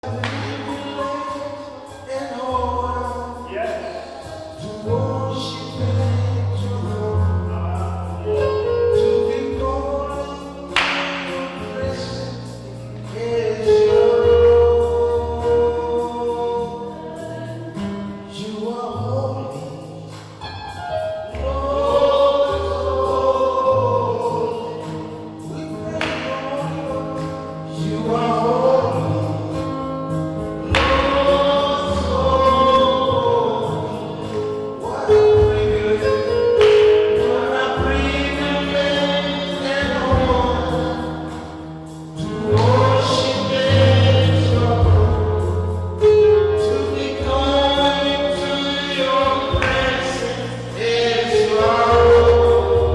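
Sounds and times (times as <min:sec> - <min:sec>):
gospel choir singing: 0:00.0 - 0:52.9
instrumental backing with bass notes: 0:00.0 - 0:52.9.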